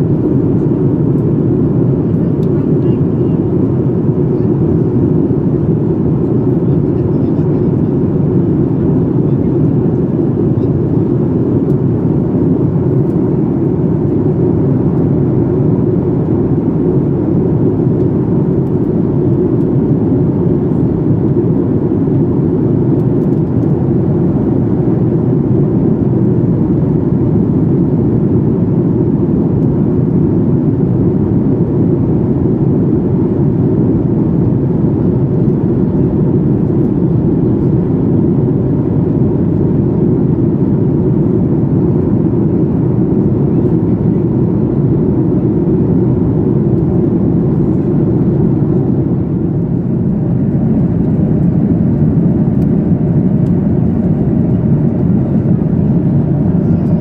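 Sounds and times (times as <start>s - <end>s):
airplane cabin engine roar: 0.0s - 57.0s.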